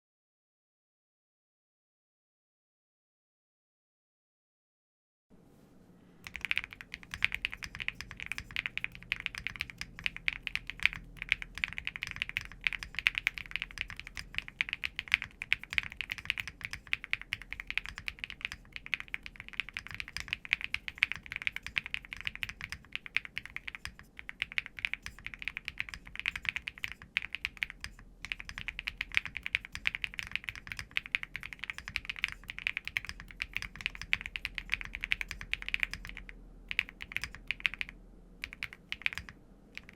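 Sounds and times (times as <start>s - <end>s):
mechanical keyboard typing: 6.2s - 39.9s.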